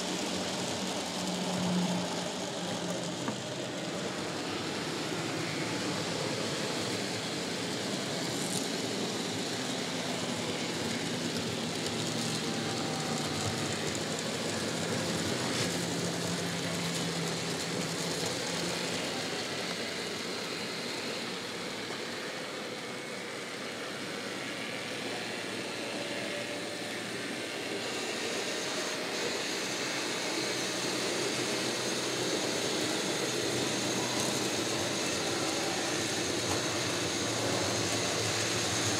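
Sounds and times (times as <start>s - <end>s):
model train motors whirring: 0.0s - 38.9s.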